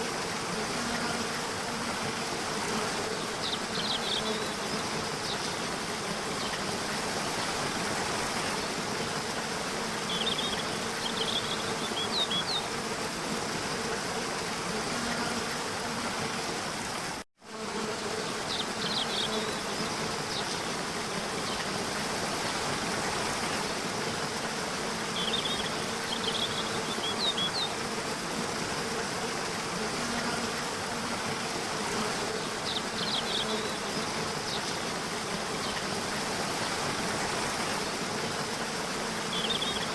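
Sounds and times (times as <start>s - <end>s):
low insect buzz: 0.0s - 39.9s.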